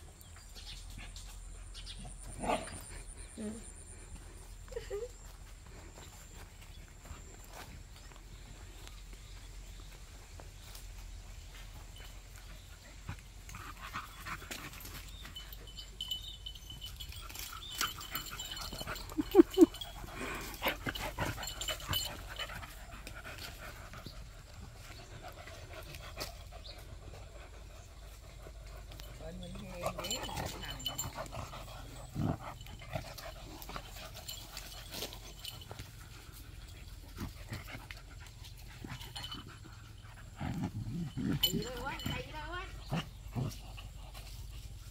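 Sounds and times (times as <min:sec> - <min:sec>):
dogs panting: 0:00.0 - 0:44.9
paws scuffing on grass: 0:04.0 - 0:40.4.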